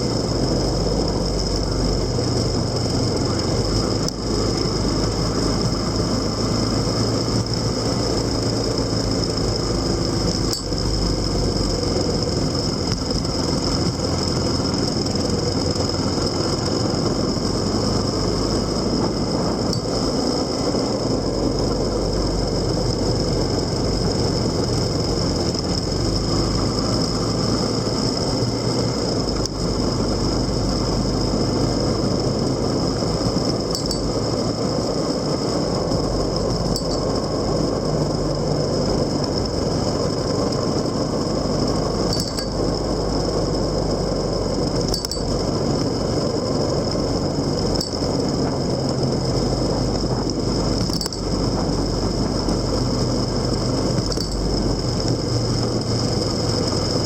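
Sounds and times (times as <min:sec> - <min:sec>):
high-pitched whine: 0:00.0 - 0:57.0
motorcycle engine: 0:00.0 - 0:57.0
road noise: 0:00.0 - 0:57.0.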